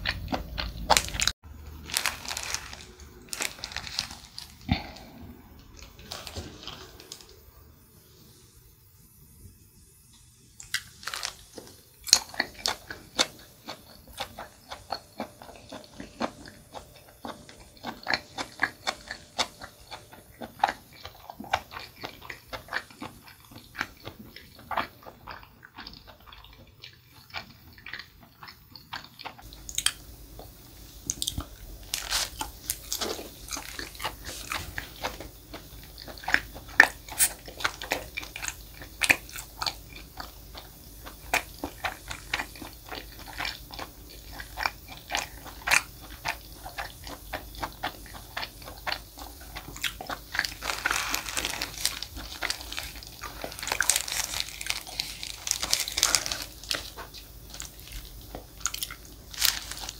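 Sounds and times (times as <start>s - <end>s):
wet chewing with mouth clicks: 10.6s - 59.9s.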